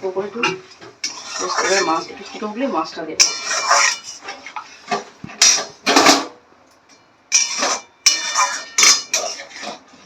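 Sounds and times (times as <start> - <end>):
metal spatula clanging on pan: 0.4 - 2.4, 3.2 - 6.3, 6.9 - 9.9.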